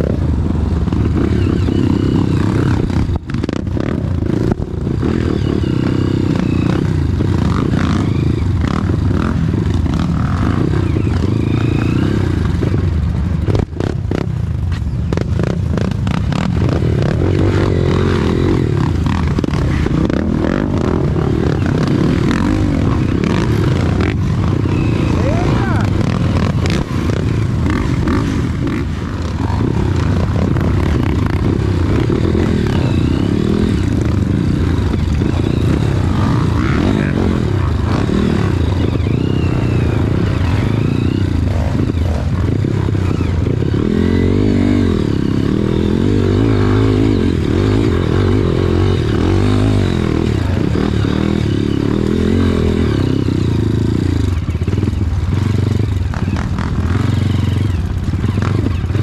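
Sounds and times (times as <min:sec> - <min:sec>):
motorcycles revving: 0:00.0 - 0:59.0.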